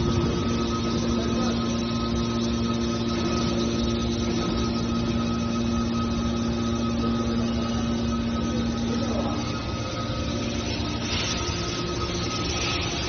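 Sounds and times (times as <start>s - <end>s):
hydraulic pump humming: 0.0s - 13.0s
steady whine: 0.0s - 13.0s.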